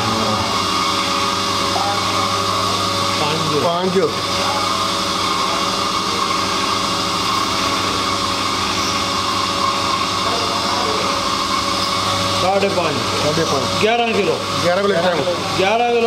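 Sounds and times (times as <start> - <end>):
machine droning hum: 0.0 - 16.0.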